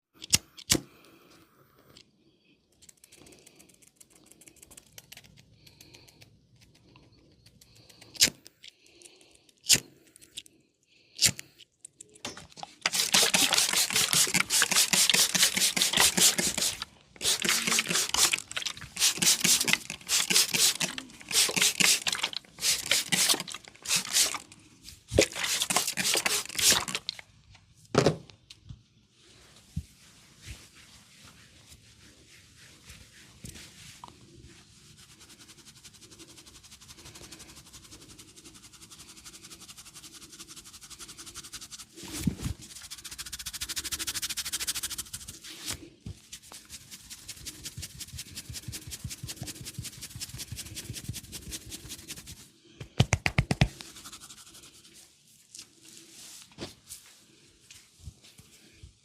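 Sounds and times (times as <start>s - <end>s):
hands rubbing over skin and hair: 2.8s - 8.2s, 12.6s - 27.1s, 29.2s - 58.8s.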